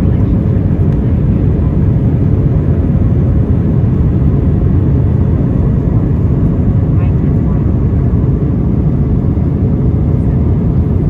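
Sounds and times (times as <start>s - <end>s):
jet cabin rumble: 0.0s - 11.0s.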